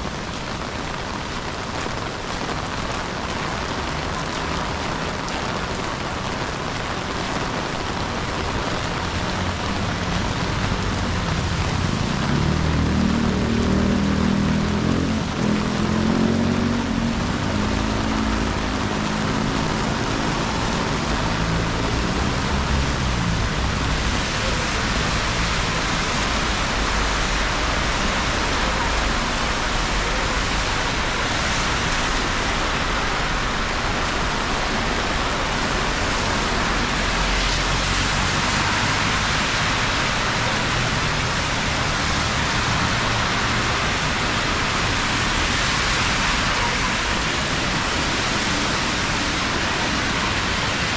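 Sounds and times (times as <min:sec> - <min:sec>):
rain falling: 0:00.0 - 0:50.9.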